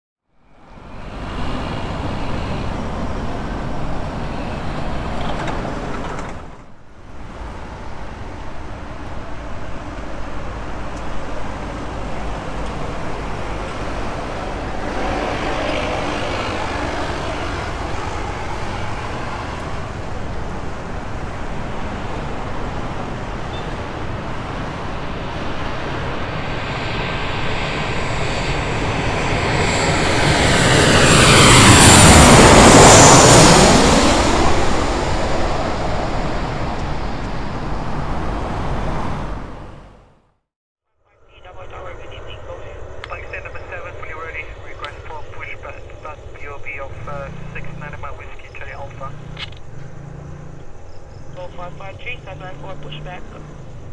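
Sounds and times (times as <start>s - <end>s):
road traffic passing: 0.3s - 40.4s, 41.1s - 53.9s
jet engines overhead: 0.4s - 40.0s, 41.1s - 53.9s.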